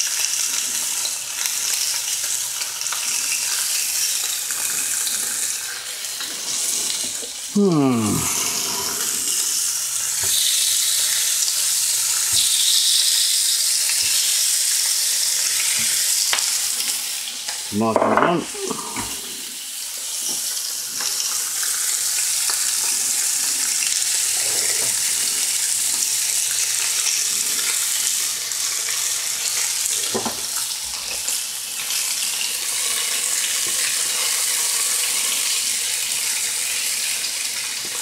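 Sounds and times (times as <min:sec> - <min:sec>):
steak sizzling on a griddle: 0:00.0 - 0:38.0.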